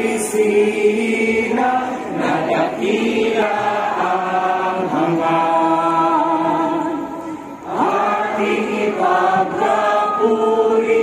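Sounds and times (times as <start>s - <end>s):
many voices singing slowly: 0.0s - 11.0s.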